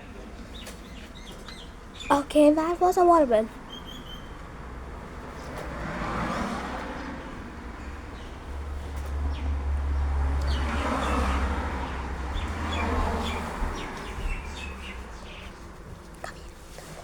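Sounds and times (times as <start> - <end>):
small birds chirping: 0.0 - 4.5, 6.8 - 17.0.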